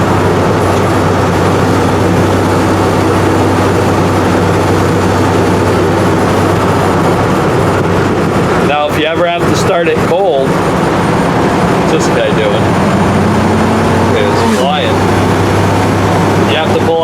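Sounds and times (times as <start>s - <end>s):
road noise: 0.0s - 17.0s
truck engine running: 0.0s - 17.0s.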